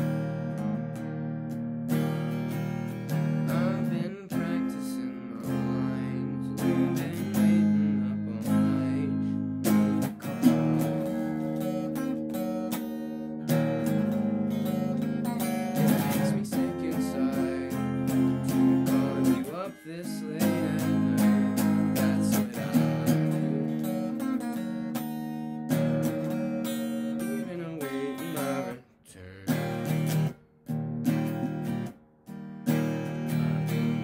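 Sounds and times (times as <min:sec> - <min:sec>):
electric guitar strumming chords: 0:00.0 - 0:34.0.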